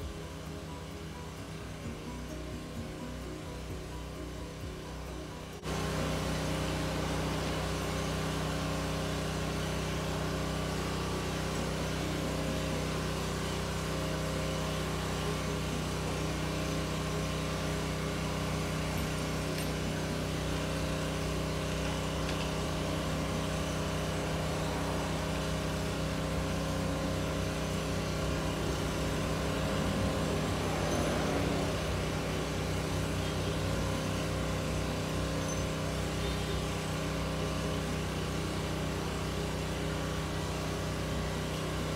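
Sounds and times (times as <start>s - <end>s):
motor humming: 0.0s - 41.9s.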